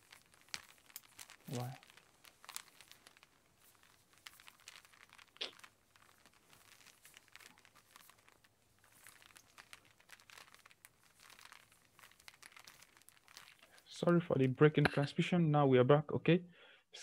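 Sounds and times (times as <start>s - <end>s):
small clicks and crackles: 0.0s - 15.0s.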